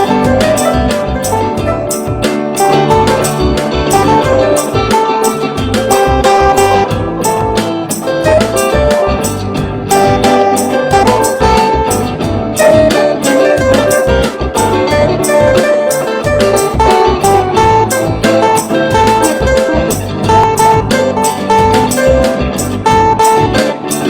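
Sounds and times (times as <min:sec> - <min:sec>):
bass: 0:00.0 - 0:24.0
guitar notes: 0:00.0 - 0:24.0
steady drum beat: 0:00.0 - 0:24.0.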